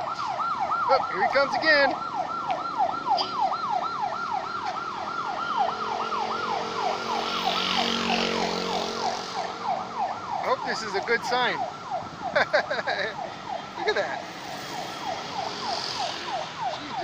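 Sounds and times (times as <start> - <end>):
electronic siren yelping: 0.0 - 17.0.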